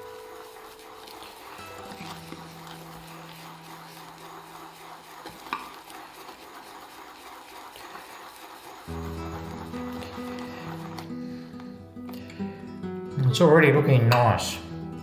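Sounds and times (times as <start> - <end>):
brush swirling wet lather: 0.0 - 12.2.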